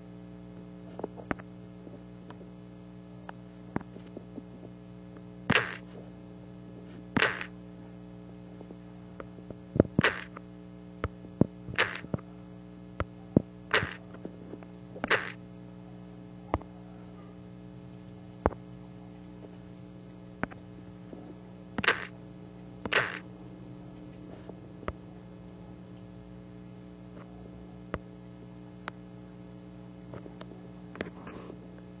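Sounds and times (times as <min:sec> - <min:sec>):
electrical hum: 0:00.0 - 0:32.0.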